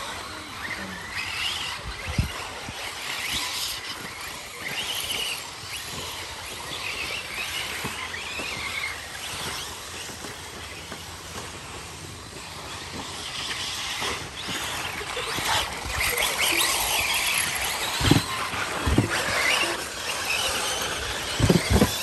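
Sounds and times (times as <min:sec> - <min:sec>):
rc car motors whining: 0:00.0 - 0:22.0.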